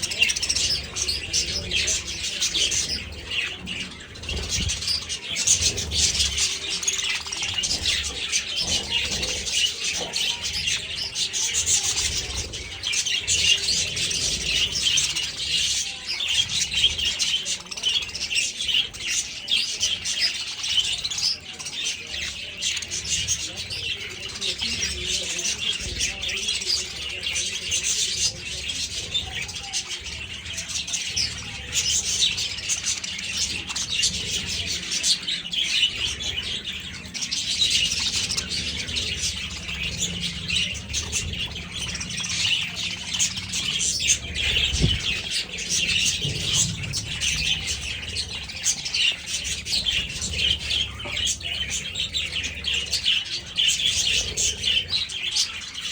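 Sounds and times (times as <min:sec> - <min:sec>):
budgerigars chirping and chattering: 0:00.0 - 0:55.9.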